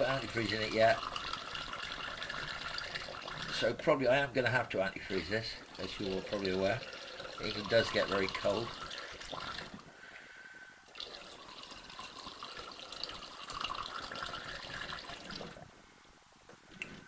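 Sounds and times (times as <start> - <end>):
water pouring and gurgling: 0.0 - 9.9, 10.9 - 15.7.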